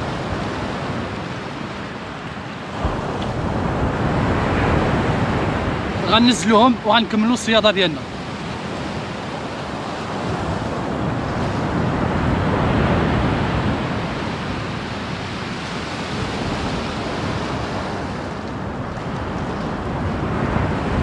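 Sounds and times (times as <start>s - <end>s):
surf on a pebble beach: 0.0s - 21.0s
wind rumbling on microphone: 0.0s - 21.0s.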